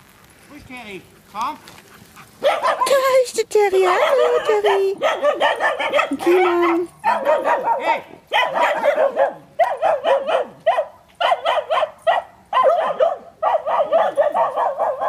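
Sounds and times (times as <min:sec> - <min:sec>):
dog yapping: 0:02.2 - 0:03.2, 0:03.8 - 0:15.0.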